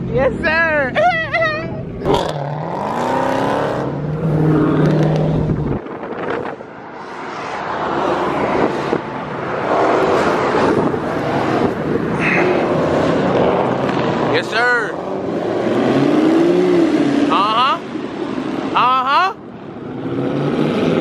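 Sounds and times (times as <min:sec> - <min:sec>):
cars moving in traffic: 0:00.0 - 0:21.0
car engine revving: 0:01.8 - 0:18.8, 0:19.6 - 0:21.0.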